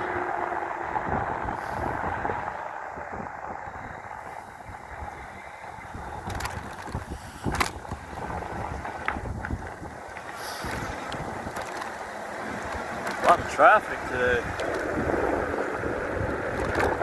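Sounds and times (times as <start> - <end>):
road noise: 0.0 - 17.0
wind rushing over microphone: 0.0 - 17.0.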